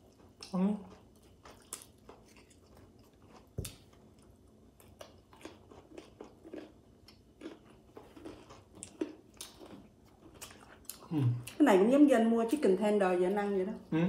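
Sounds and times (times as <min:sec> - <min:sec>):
chewing crispy chicken: 0:00.0 - 0:11.6.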